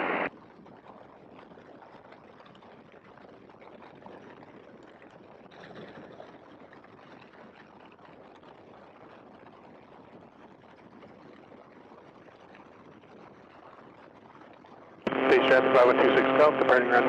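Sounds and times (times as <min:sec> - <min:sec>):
faint biplane in flight: 0:00.0 - 0:17.0.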